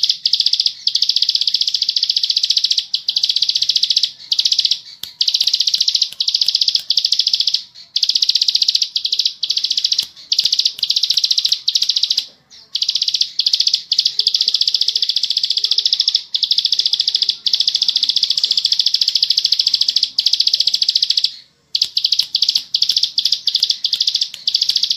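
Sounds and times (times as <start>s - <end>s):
songbird rattling trill: 0.0s - 24.9s.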